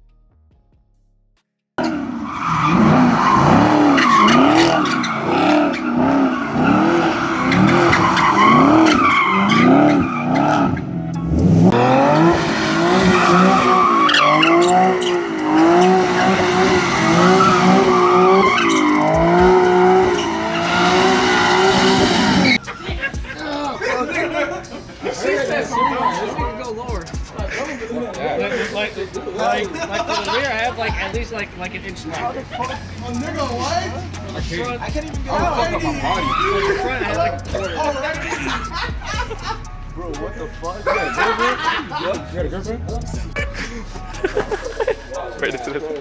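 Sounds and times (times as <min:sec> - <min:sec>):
car engine revving: 0:01.8 - 0:23.2, 0:28.4 - 0:46.0
tyres squealing: 0:01.8 - 0:46.0.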